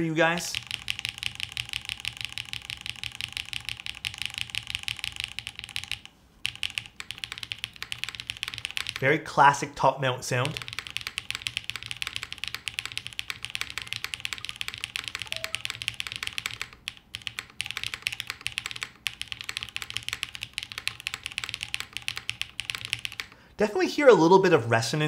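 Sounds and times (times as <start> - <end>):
fast typing on mechanical keyboard: 0.4 - 9.1, 10.4 - 23.4.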